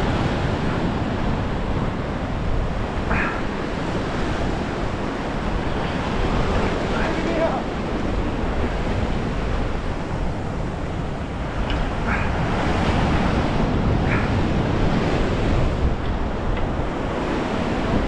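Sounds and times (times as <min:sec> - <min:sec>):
ocean surf breaking on rocks: 0:00.0 - 0:18.0
wind buffeting microphone: 0:00.0 - 0:18.0.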